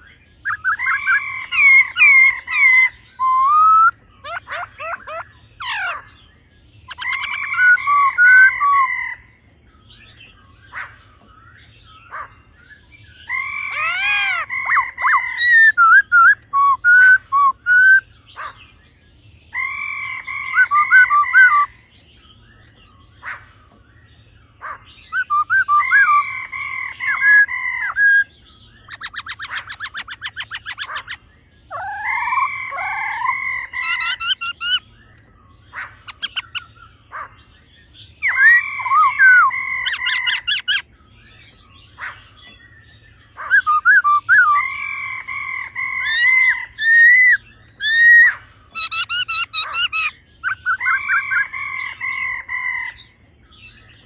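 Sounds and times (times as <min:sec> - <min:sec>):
bird whistled song: 0:00.0 - 0:54.0.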